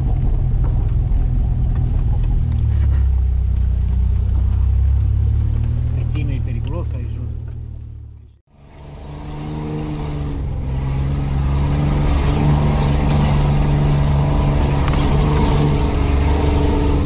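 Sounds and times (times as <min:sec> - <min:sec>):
off-road vehicle engine: 0:00.0 - 0:17.0.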